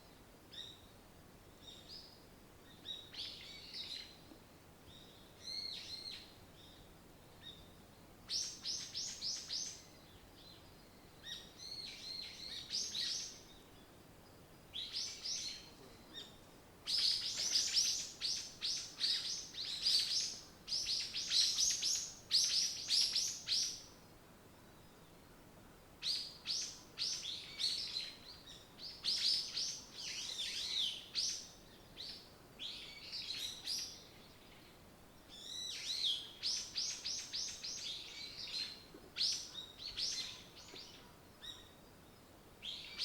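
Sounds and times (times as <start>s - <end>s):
songbirds chirping: 0.0s - 43.0s.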